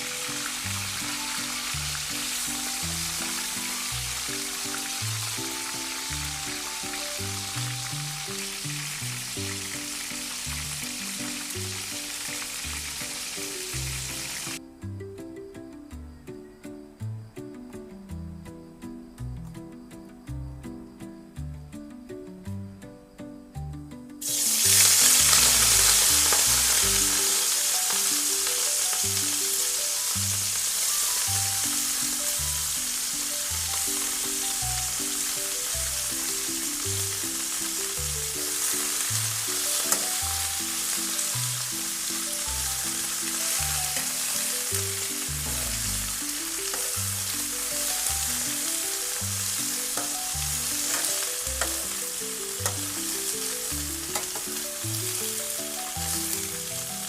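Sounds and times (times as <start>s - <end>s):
food sizzling in hot oil: 0.0s - 14.6s, 24.2s - 57.0s
gentle background melody: 0.0s - 57.0s.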